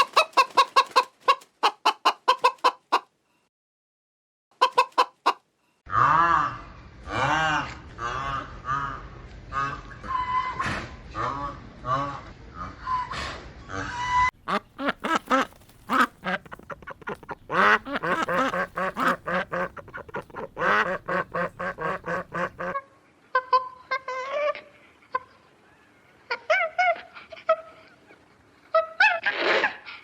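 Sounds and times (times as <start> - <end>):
ducks quacking: 0.0 - 3.0, 4.6 - 28.1.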